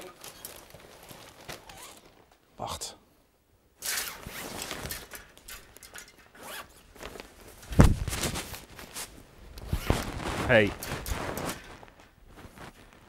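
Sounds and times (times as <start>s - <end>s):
clothing rustling: 0.0s - 2.4s, 4.0s - 13.0s.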